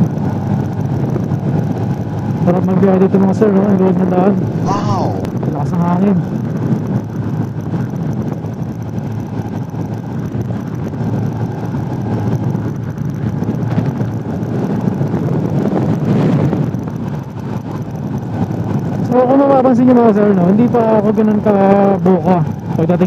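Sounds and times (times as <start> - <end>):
motorcycle engine: 0.0 - 23.0
road noise: 0.0 - 23.0
wind on microphone: 0.0 - 23.0.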